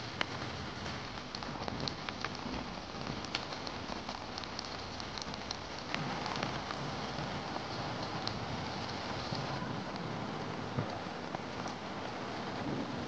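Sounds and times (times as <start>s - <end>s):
raindrops tapping: 0.0s - 13.0s
steady rain hiss: 0.0s - 13.0s.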